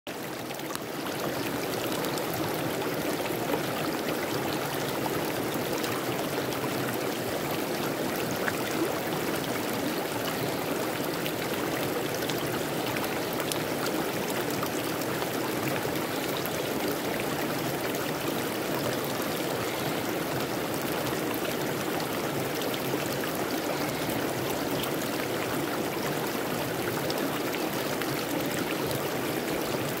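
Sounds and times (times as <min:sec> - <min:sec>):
stream flowing over stones: 0:00.1 - 0:30.0.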